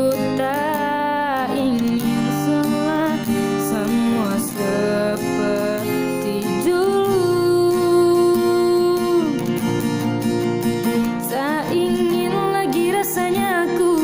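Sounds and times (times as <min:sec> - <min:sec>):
person singing: 0:00.0 - 0:10.2, 0:11.0 - 0:14.0
strummed acoustic guitar: 0:00.0 - 0:14.0.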